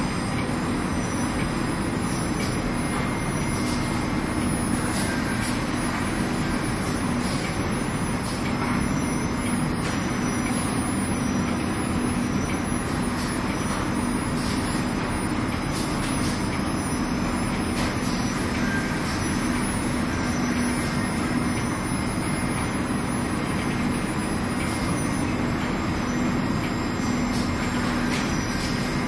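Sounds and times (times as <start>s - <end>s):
laundry ironer machine running: 0.0s - 29.0s.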